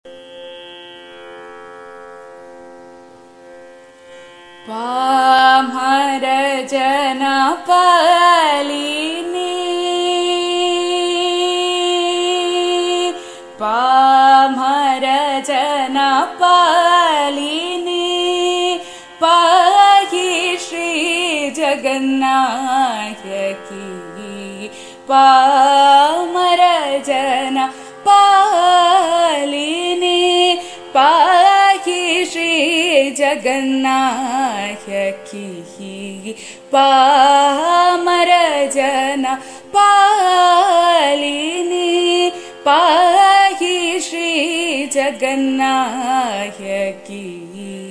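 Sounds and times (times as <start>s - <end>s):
woman singing: 4.6s - 47.9s.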